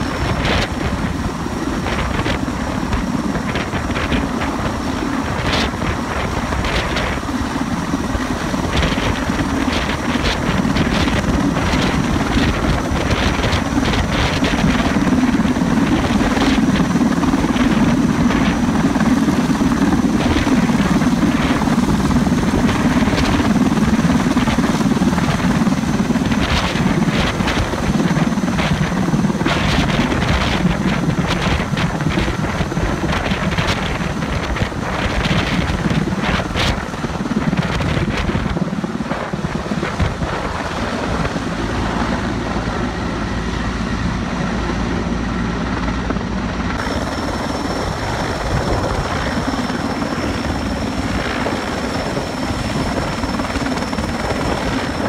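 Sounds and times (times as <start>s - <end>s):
helicopter rotor hovering: 0.0s - 55.0s
high turbine whine: 0.0s - 55.0s.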